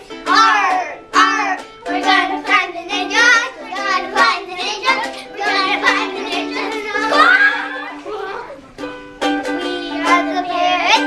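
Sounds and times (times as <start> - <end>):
children singing: 0.0 - 11.0
instrumental accompaniment: 0.0 - 11.0.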